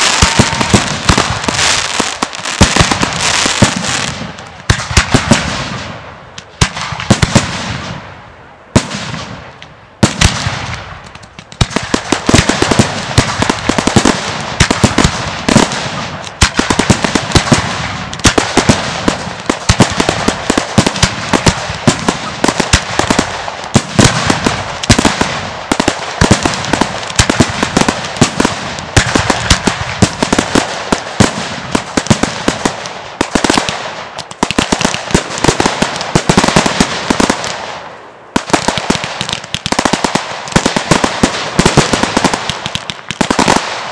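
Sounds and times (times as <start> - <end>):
fireworks bursts and pops: 0.0 - 8.1, 8.7 - 43.9
loud fireworks bangs: 0.0 - 43.9.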